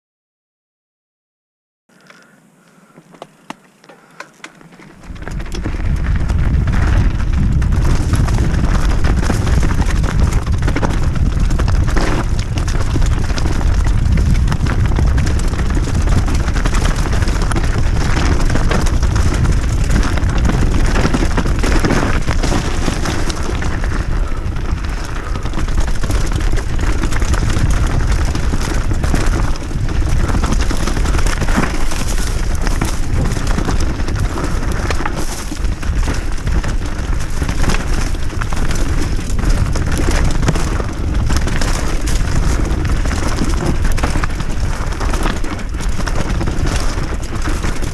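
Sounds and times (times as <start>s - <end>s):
mountain bike rattling: 1.9s - 47.9s
wind buffeting microphone: 4.9s - 47.9s.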